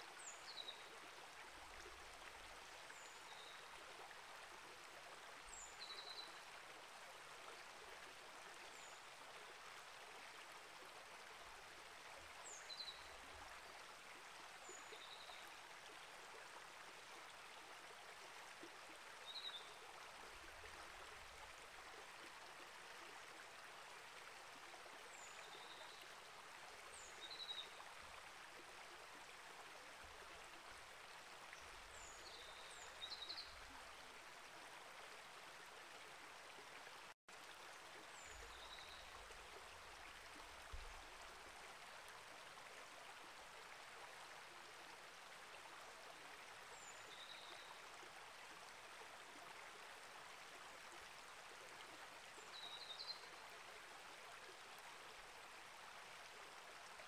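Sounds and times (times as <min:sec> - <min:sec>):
small creek flowing: 0:00.0 - 0:57.0.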